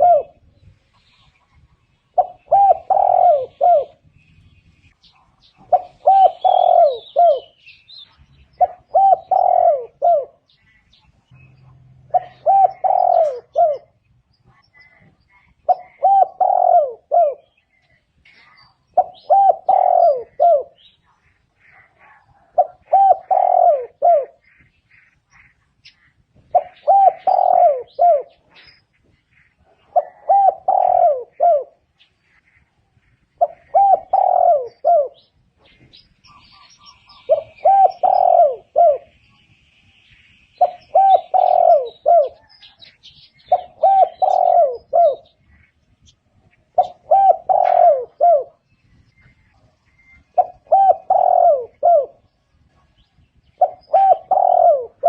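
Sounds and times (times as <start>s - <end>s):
dove cooing: 0.0s - 4.2s, 5.0s - 39.3s, 40.6s - 55.0s
small birds chirping: 0.0s - 55.0s.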